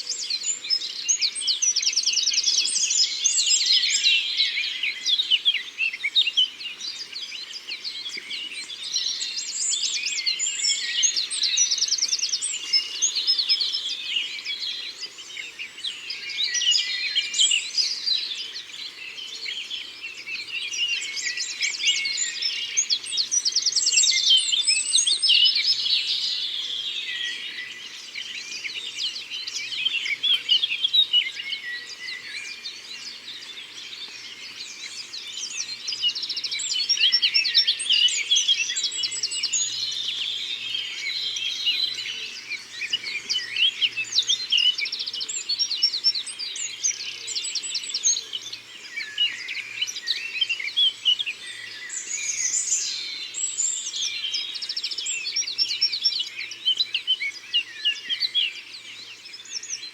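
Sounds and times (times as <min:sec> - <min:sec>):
songbirds trilling and whistling: 0:00.0 - 0:59.9.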